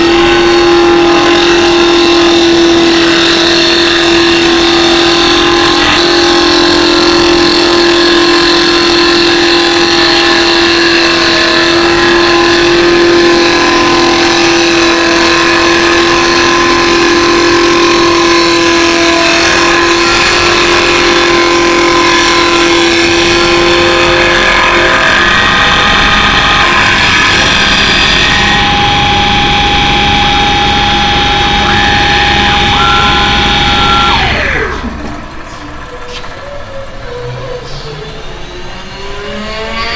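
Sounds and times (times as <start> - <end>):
wood lathe whining: 0.0 - 39.9.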